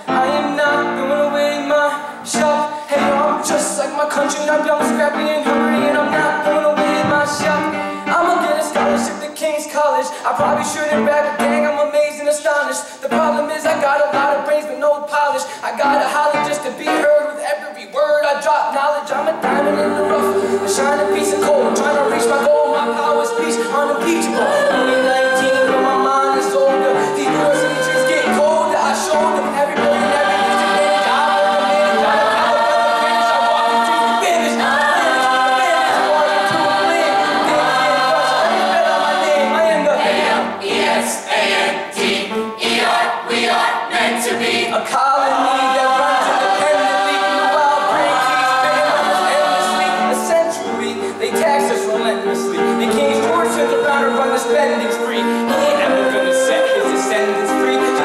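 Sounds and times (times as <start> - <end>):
mixed choir singing in harmony: 0.0 - 9.1, 19.0 - 58.0
male soloist singing: 0.0 - 40.2, 44.6 - 58.0.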